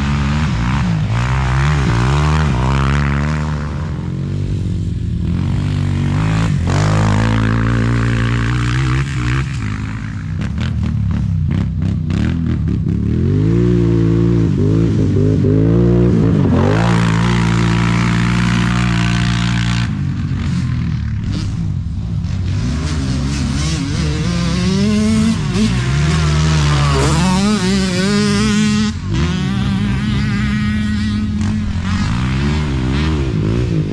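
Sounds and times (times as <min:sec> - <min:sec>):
quad engines revving: 0:00.0 - 0:33.9.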